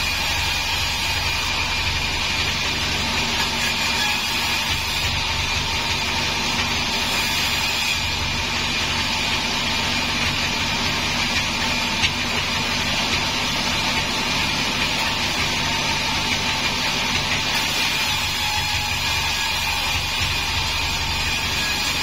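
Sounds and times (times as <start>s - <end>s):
band saw cutting wood: 0.0s - 22.0s.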